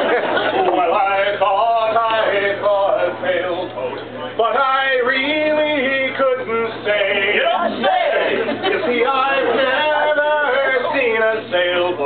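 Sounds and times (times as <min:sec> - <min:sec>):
men singing a chantey: 0:00.7 - 0:03.7, 0:04.4 - 0:12.0.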